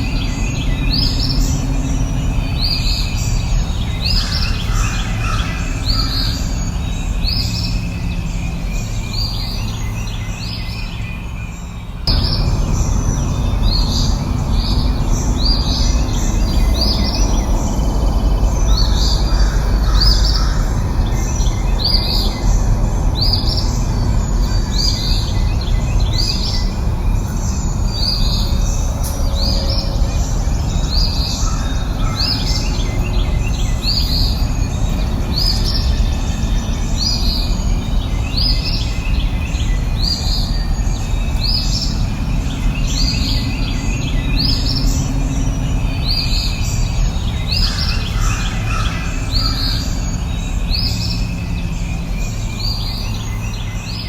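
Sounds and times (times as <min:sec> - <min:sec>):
low rushing background noise: 0:00.0 - 0:54.0.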